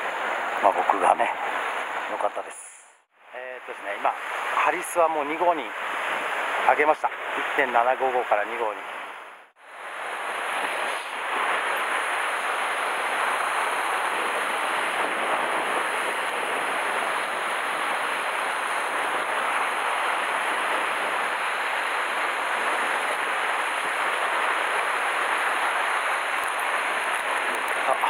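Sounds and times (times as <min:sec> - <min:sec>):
surf washing on rocky shore: 0:03.7 - 0:28.0.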